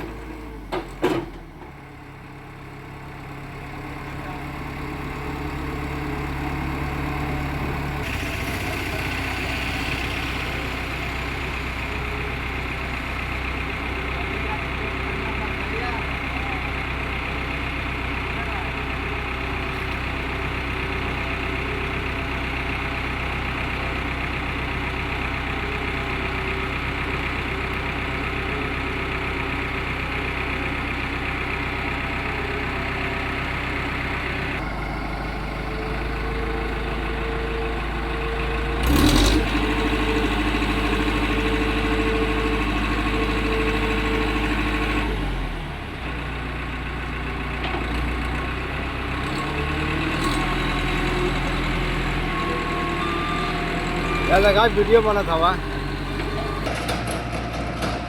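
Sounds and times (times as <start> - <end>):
concrete mixer engine running: 0.0 - 58.0.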